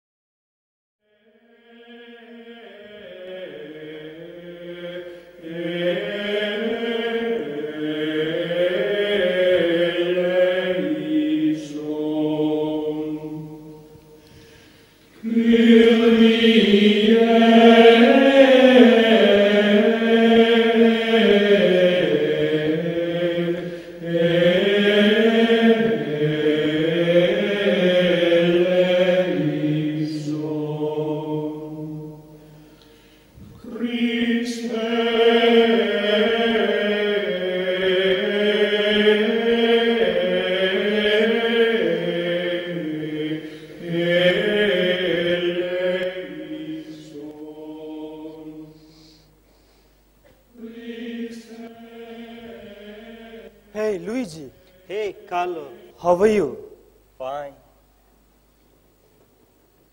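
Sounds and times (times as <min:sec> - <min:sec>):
low voices chanting: 0:01.1 - 0:32.7, 0:33.4 - 0:49.4, 0:50.2 - 0:56.9.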